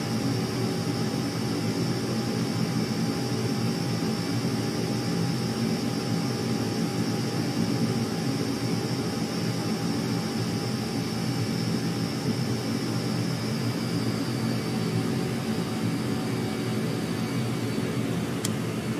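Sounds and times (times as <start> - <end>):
jet engine rumble: 0.1 - 18.9.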